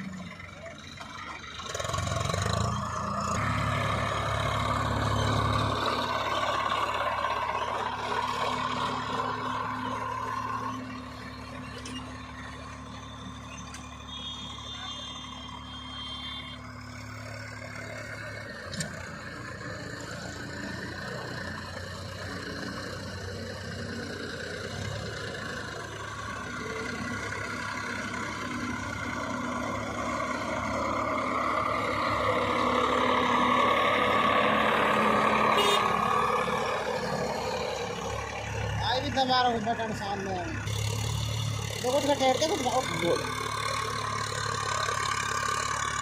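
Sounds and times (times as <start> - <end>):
diesel tractor engine running: 0.0 - 46.0.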